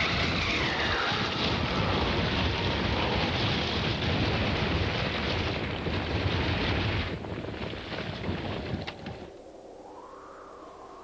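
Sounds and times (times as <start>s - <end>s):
dense rushing sand noise: 0.0s - 9.3s.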